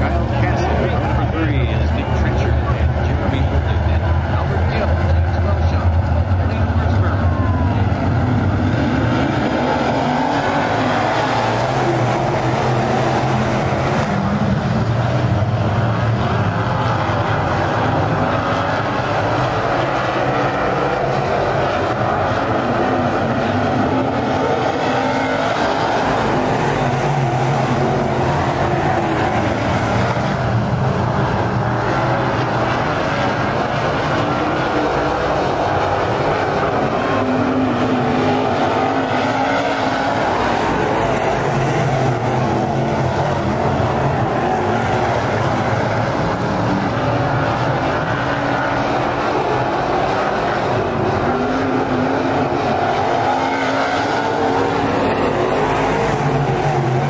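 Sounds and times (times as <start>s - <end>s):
race car engines racing: 0.0s - 57.0s.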